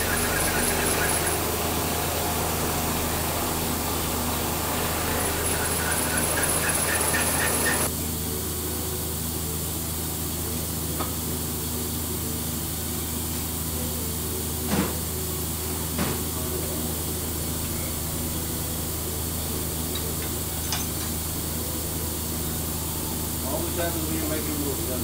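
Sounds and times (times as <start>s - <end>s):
milling machine humming: 0.0s - 25.0s.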